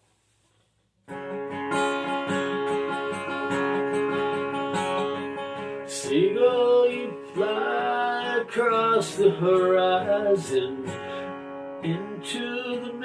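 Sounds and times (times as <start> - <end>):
acoustic guitar strumming chords: 1.1 - 13.0.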